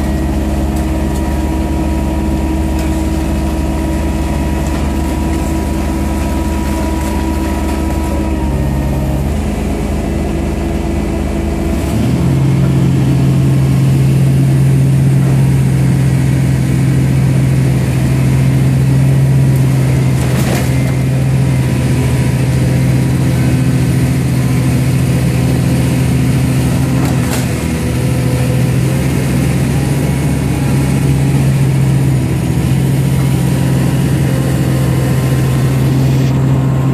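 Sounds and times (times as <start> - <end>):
baler machine humming: 0.0 - 36.9.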